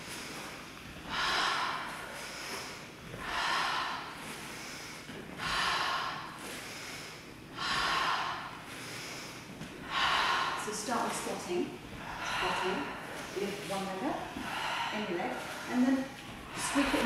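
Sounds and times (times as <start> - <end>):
person breathing hard: 0.0 - 17.0.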